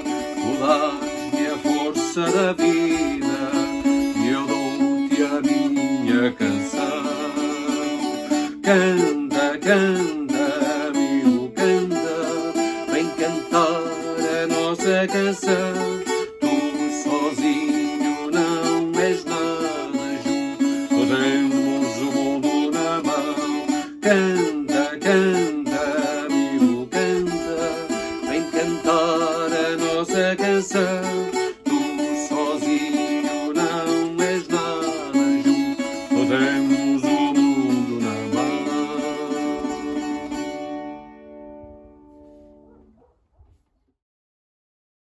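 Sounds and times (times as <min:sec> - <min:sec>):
plucked folk guitar: 0:00.0 - 0:43.1.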